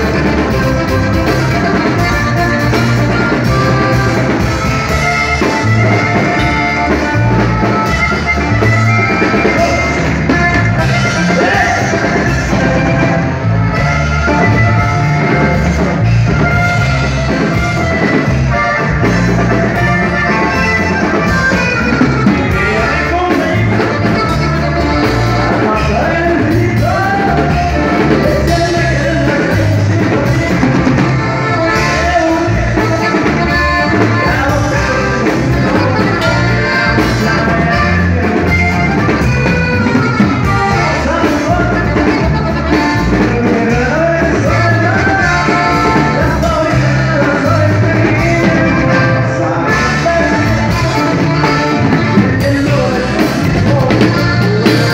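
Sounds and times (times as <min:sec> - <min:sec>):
accordion lead: 0:00.0 - 0:54.9
drums: 0:00.0 - 0:54.9
electric bass: 0:00.0 - 0:54.9.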